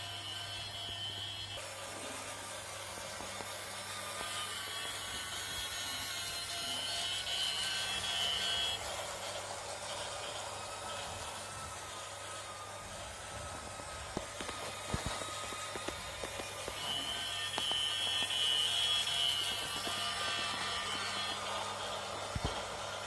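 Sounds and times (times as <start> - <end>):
toy train motor whirring: 0.0 - 23.0
wheels rattling on plastic track: 2.2 - 23.0.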